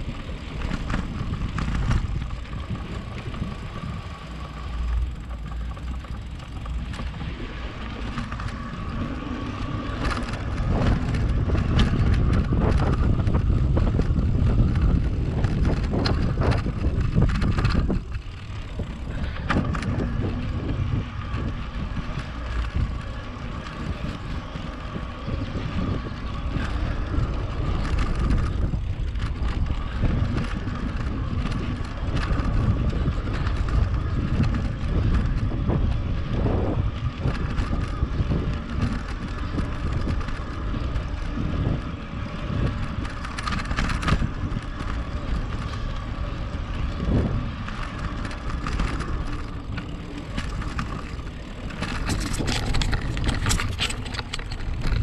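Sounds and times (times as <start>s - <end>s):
tyres on trail: 0.0s - 55.0s
wind rumbling on microphone: 0.0s - 55.0s.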